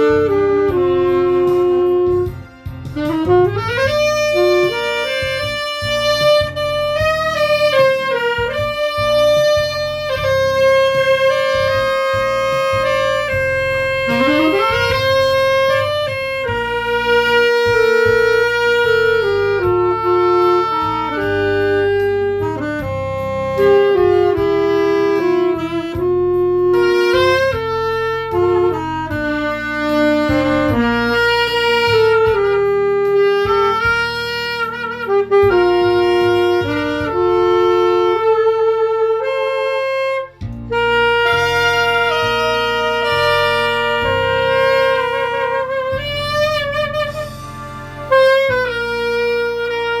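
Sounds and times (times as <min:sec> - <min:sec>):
backing accompaniment with bass: 0:00.0 - 0:50.0
saxophone melody with vibrato: 0:00.0 - 0:50.0.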